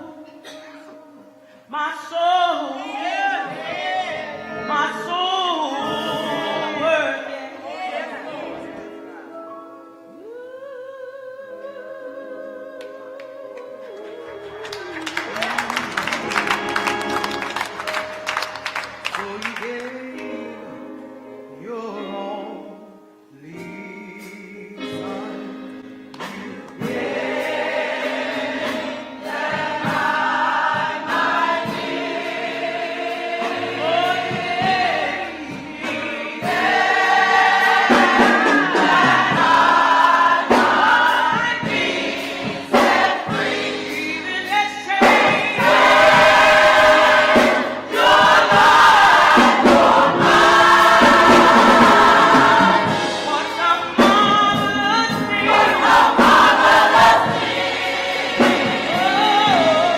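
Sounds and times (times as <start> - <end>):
gospel choir singing with music: 0.0 - 59.9.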